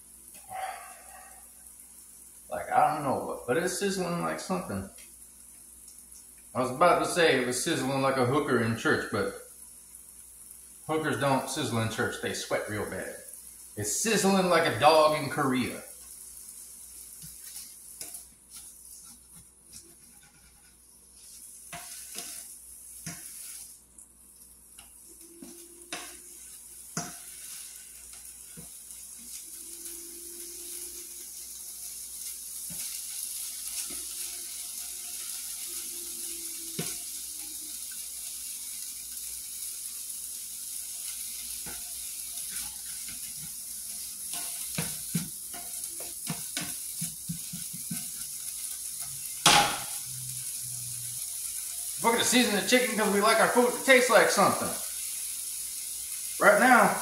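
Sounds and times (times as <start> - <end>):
chicken sizzling in a frying pan: 0.0 - 57.0.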